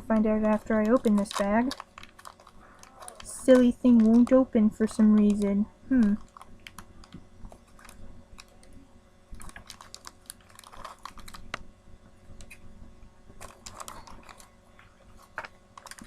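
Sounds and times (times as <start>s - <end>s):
plastic bag crinkling: 0.0s - 11.6s, 13.4s - 16.0s.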